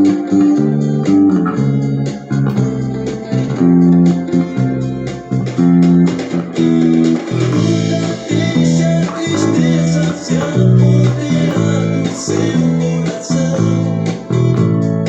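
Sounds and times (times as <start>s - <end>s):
electric bass melody: 0.0s - 15.0s
electric guitars: 0.0s - 15.0s.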